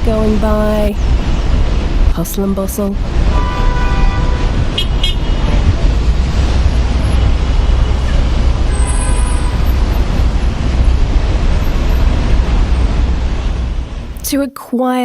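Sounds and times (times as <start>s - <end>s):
street traffic rumble: 0.0s - 14.4s.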